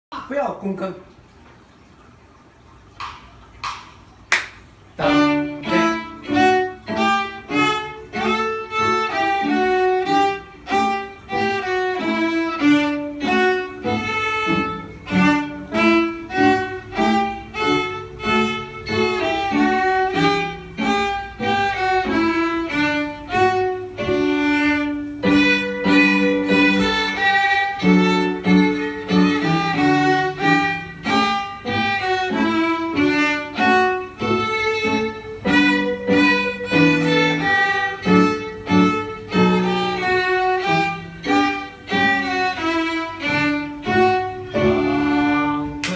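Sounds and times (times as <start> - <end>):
bowed violin notes: 5.0 - 45.9.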